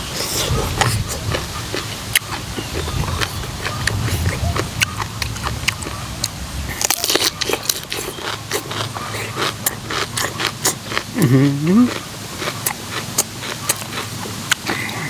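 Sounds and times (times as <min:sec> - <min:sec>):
wet chewing and lip-smacking: 0:00.0 - 0:15.0
sharp clicks and crunches: 0:00.2 - 0:11.3, 0:12.4 - 0:15.0.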